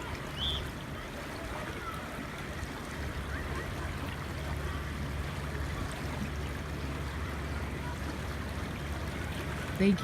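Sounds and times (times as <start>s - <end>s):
river flowing: 0.0s - 10.0s.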